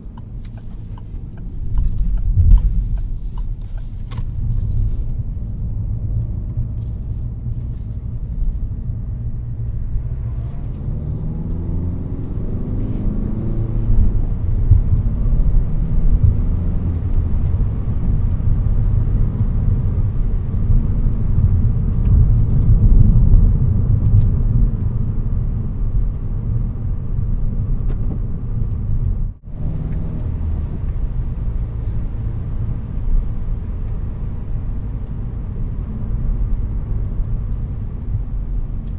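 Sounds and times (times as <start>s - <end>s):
car diesel engine accelerating: 0.0s - 38.9s
road noise: 0.0s - 38.9s.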